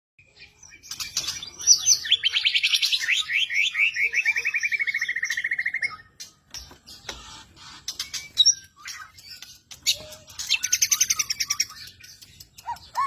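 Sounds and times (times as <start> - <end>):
songbird chirps and trill: 0.2 - 13.0.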